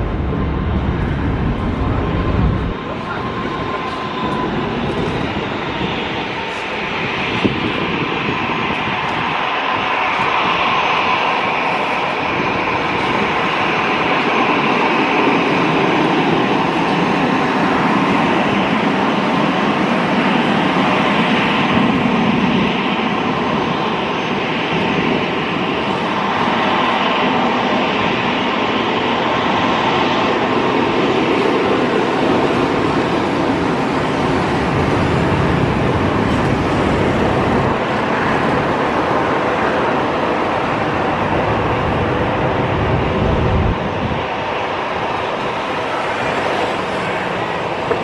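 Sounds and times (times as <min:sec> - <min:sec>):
jet aircraft taxiing: 0:00.0 - 0:48.0.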